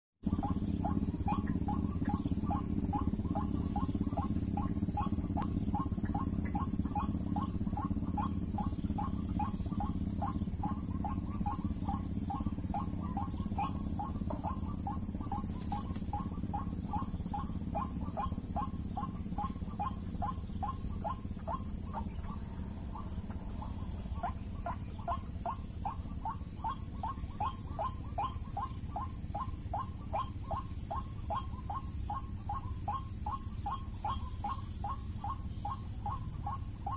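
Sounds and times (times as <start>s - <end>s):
bird calling repeated notes: 0.2s - 36.9s
high-pitched whine: 0.2s - 36.9s.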